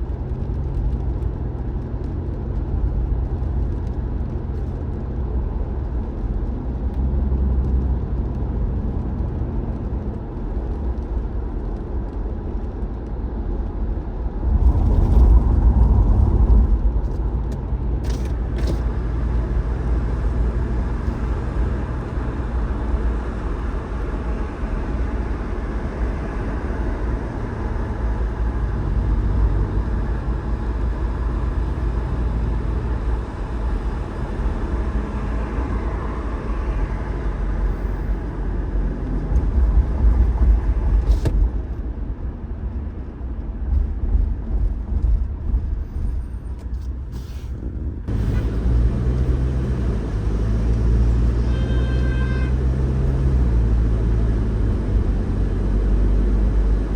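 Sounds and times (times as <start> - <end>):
car engine and road rumble: 0.0 - 56.9.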